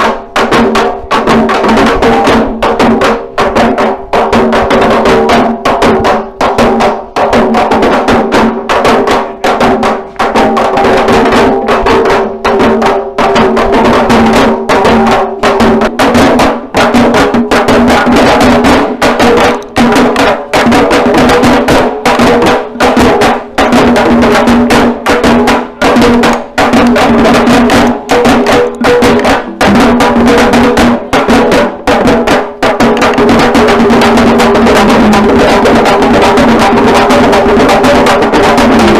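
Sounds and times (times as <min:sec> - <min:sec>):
frame drums beaten fast: 0:00.0 - 0:38.9.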